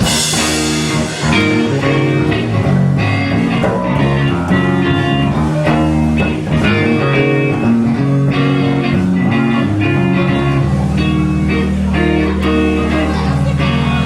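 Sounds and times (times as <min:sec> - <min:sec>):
bass guitar: 0:00.0 - 0:14.0
electric guitar: 0:00.0 - 0:14.0.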